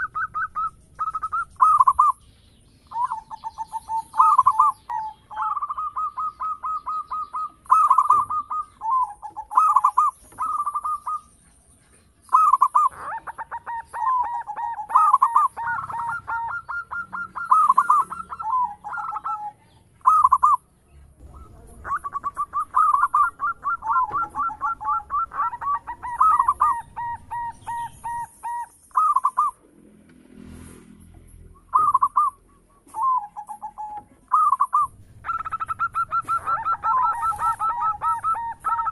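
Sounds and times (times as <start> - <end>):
dove cooing: 0.0 - 29.7, 31.6 - 38.9.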